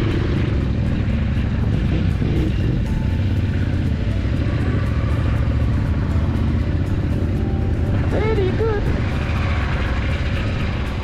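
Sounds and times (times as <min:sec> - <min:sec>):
background music: 0:00.0 - 0:11.0
motorcycle engine running: 0:00.0 - 0:11.0.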